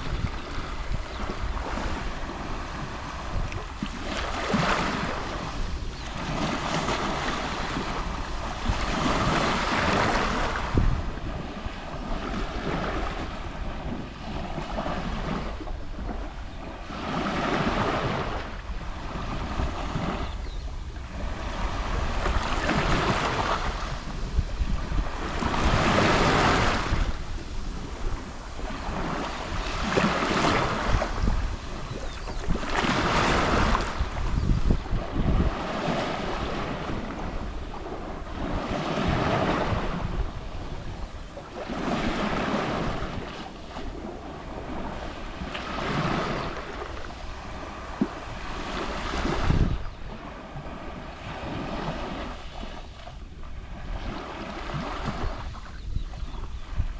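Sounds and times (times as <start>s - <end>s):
waves lapping on shore: 0.0s - 56.9s
wind buffeting microphone: 0.0s - 56.9s.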